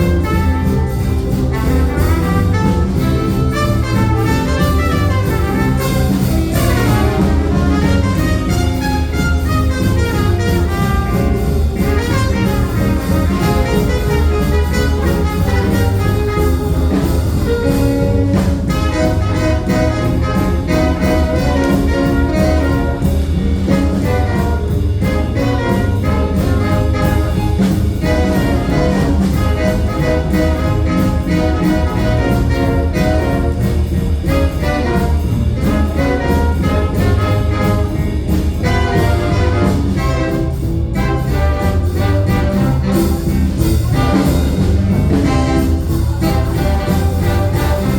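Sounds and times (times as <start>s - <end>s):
jazz band playing live: 0.0s - 47.9s.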